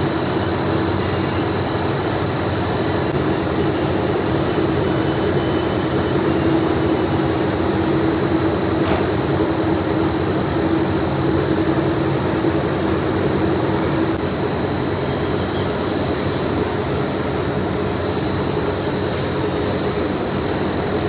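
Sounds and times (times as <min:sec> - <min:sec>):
high machinery whine: 0:00.0 - 0:21.0.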